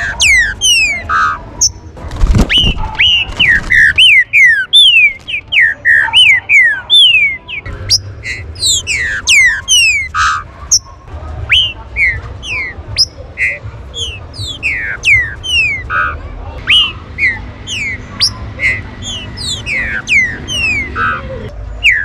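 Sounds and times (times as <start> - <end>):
birds whistling short notes: 2.4 - 10.9, 11.5 - 21.1.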